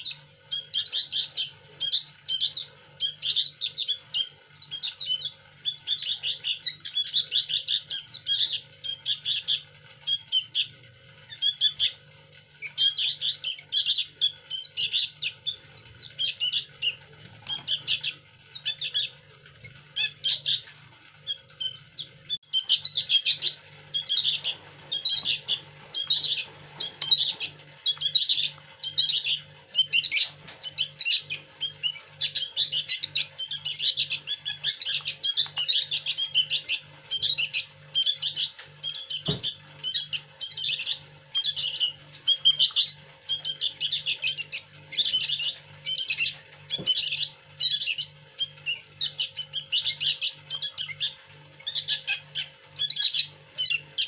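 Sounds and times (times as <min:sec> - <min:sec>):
fledgling birds begging chirps: 0:00.0 - 0:54.0.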